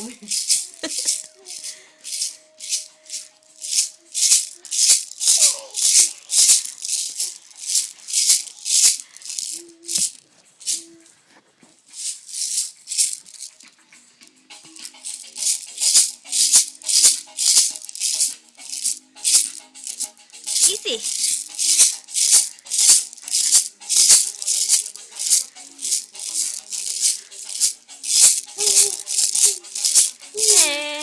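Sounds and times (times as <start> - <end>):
baby rattle shaking: 0.0 - 11.1, 11.9 - 13.8, 14.5 - 31.0.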